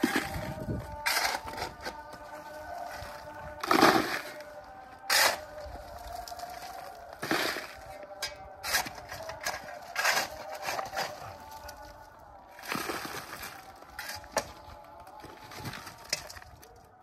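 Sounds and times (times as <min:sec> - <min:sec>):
shovel scooping coal: 0:00.0 - 0:16.8
music: 0:00.0 - 0:17.0.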